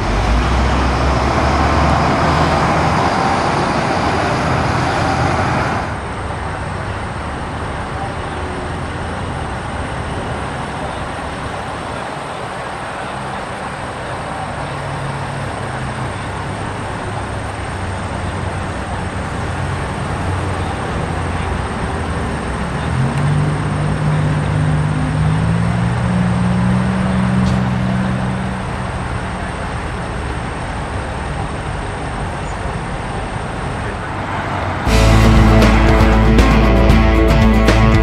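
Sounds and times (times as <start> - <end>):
large engine drone: 0.0 - 38.0
passing vehicles: 0.0 - 38.0.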